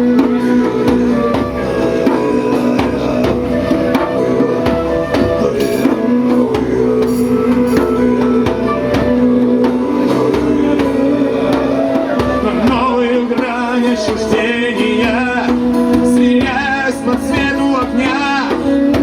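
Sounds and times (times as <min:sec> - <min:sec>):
sustained held notes: 0:00.0 - 0:16.2
drums keeping the beat: 0:00.0 - 0:19.0.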